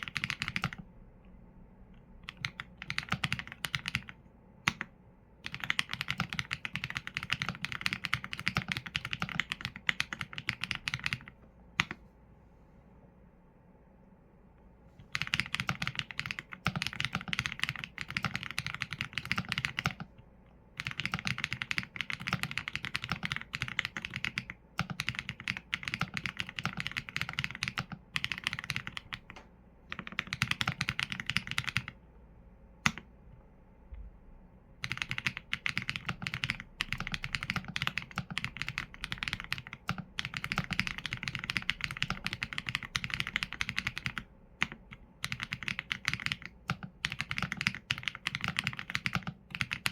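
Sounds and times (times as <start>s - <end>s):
typing on mechanical keyboard: 0.0s - 0.8s, 2.2s - 12.0s, 15.1s - 20.1s, 20.8s - 32.0s, 34.8s - 49.9s.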